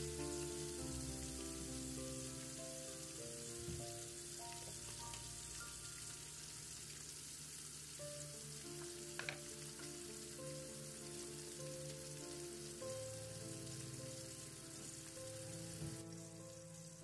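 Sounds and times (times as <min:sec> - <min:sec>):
fish sizzling in oil: 0:00.0 - 0:17.0
soft slow background music: 0:00.0 - 0:17.0.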